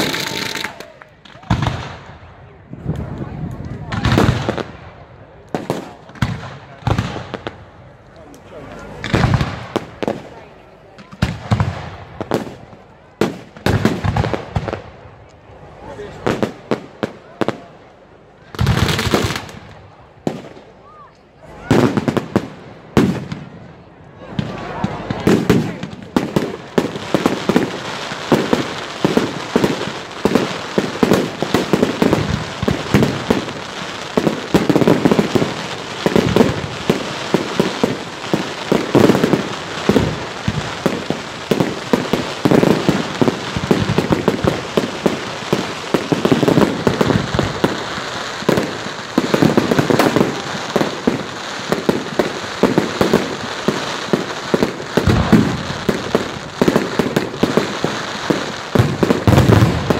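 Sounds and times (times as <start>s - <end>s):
fireworks bangs and pops: 0.0s - 59.9s.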